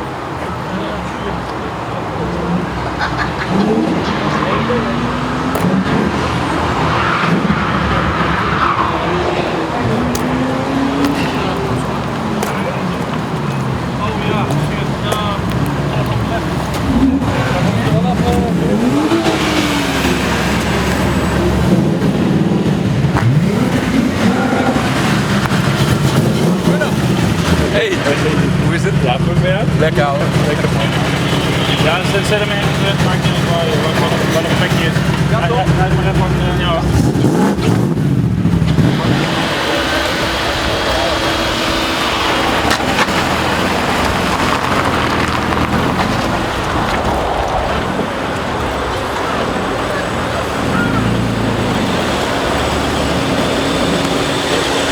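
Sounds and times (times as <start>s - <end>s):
car engine revving: 0.0s - 54.9s
constant rushing noise: 0.0s - 54.9s.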